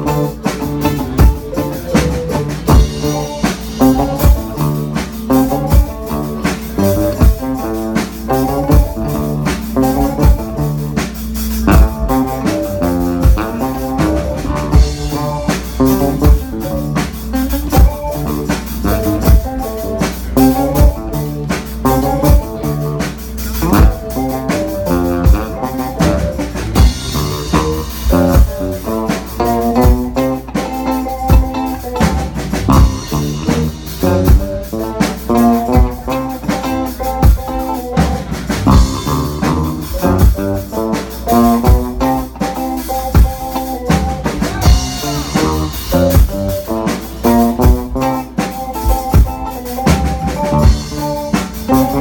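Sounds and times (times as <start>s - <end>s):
drum kit beat: 0.0s - 52.0s
keyboard: 0.0s - 52.0s.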